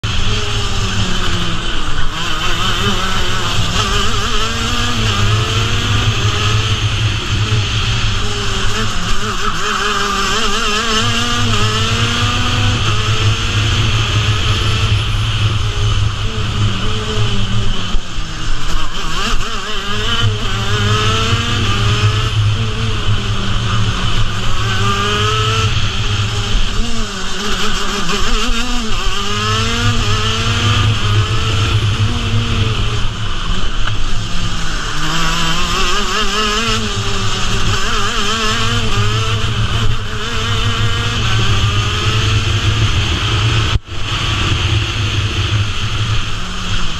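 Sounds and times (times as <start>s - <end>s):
kart engine revving: 0.0s - 46.9s.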